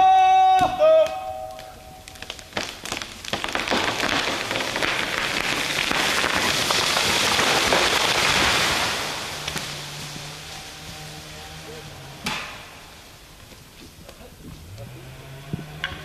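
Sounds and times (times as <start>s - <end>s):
wood cracking: 0.5s - 16.0s
branches crackling and swishing: 1.2s - 15.8s.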